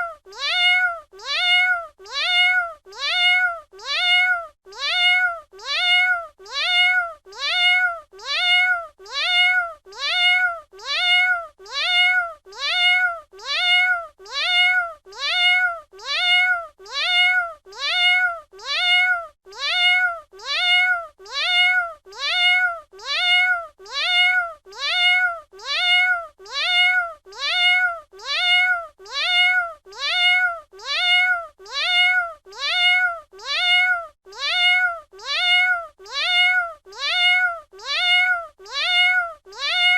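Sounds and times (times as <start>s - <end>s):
cat meowing: 0.0s - 39.9s.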